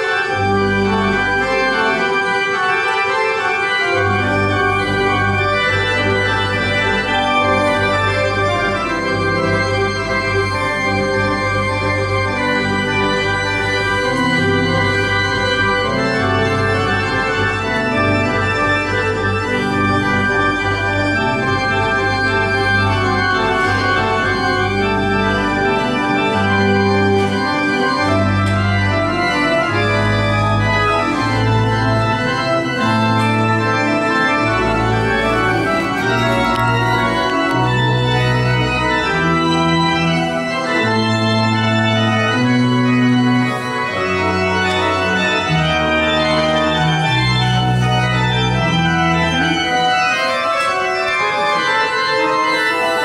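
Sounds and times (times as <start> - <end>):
pipe organ playing chords: 0.0 - 53.0.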